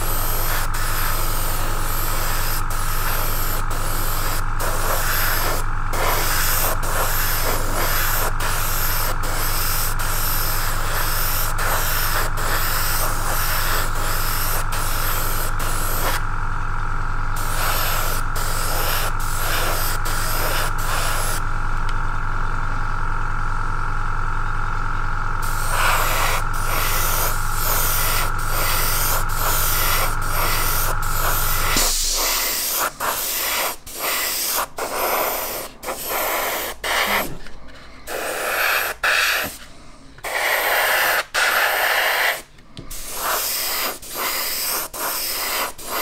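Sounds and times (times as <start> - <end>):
airbrush air hiss: 0.0 - 16.2, 17.4 - 21.4, 25.4 - 46.0
compressor humming: 0.0 - 46.0.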